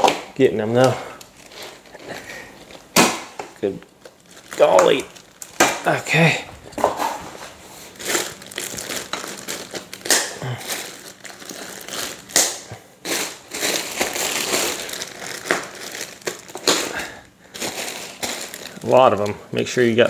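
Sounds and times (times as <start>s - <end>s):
packaging crinkling: 0.8s - 20.0s.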